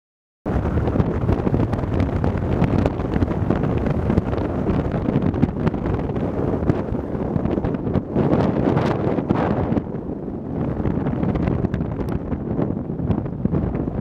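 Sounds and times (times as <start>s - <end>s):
wind buffeting the microphone: 0.5s - 14.0s.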